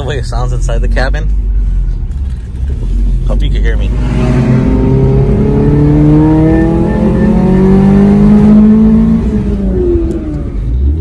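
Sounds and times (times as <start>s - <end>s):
car engine revving: 2.0s - 11.0s.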